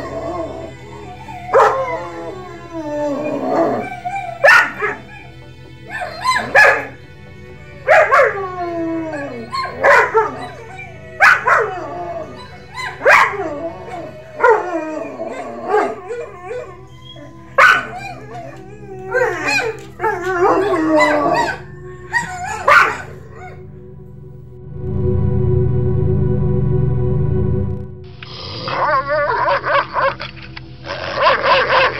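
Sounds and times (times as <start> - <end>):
steady low hum: 0.0 - 6.1, 6.9 - 31.9
dog barking and howling: 0.0 - 7.0, 7.7 - 23.6, 28.2 - 31.9.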